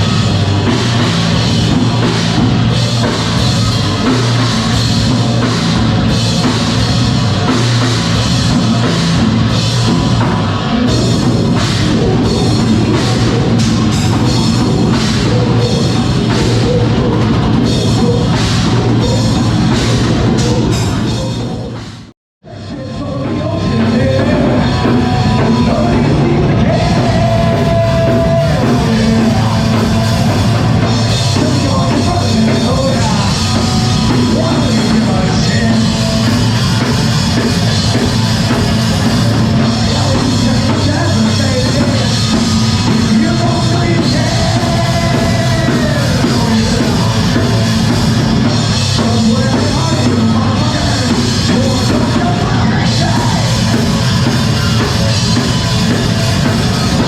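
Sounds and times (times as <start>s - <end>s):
live heavy rock band: 0.0s - 57.0s
yelled vocals: 0.0s - 57.0s.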